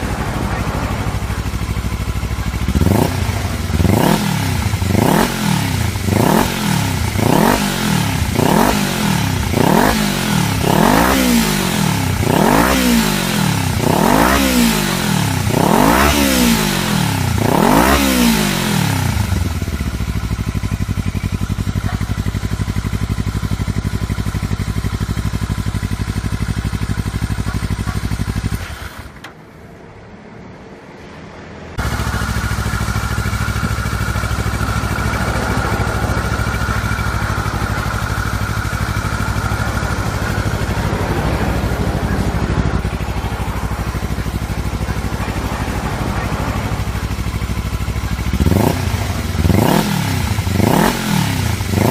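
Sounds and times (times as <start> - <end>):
motorcycle engine revving: 0.0 - 29.4, 31.7 - 51.9.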